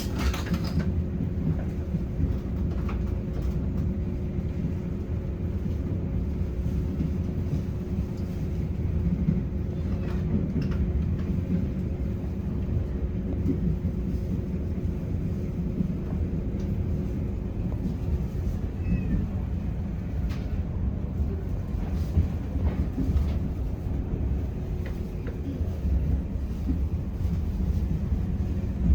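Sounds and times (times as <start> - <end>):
train running rumble: 0.0 - 28.9.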